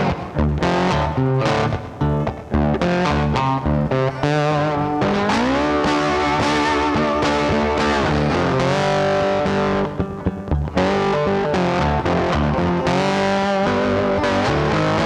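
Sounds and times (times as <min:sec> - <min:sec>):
rock music with distorted guitar: 0:00.0 - 0:15.0.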